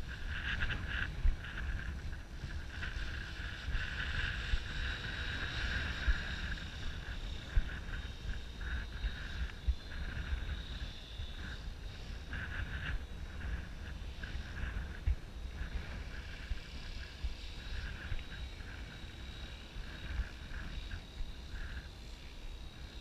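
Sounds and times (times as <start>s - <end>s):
rc helicopter motor hum: 0.0s - 23.0s
wind on microphone: 0.0s - 23.0s.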